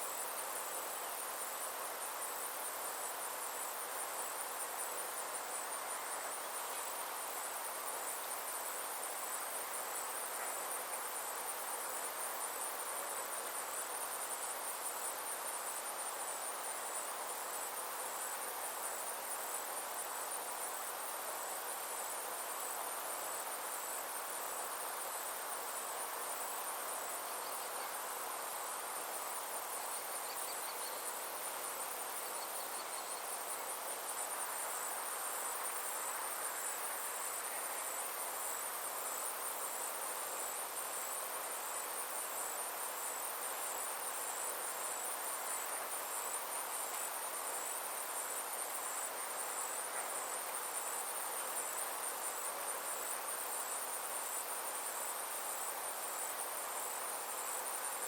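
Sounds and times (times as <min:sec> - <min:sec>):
insects chirping: 0:00.0 - 0:58.0
soft even hiss: 0:00.0 - 0:58.0.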